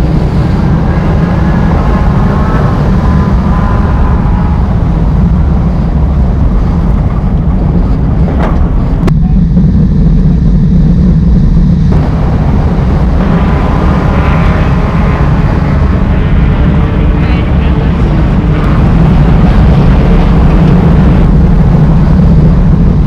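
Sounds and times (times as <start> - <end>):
race car engine running: 0.0 - 23.0.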